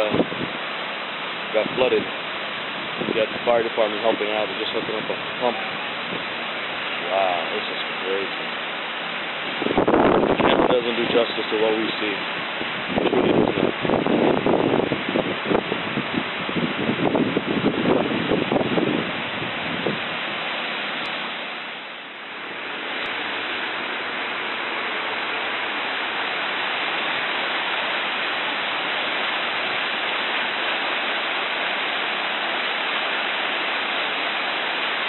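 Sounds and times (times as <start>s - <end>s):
floodwater rushing down a stream: 0.0s - 35.0s.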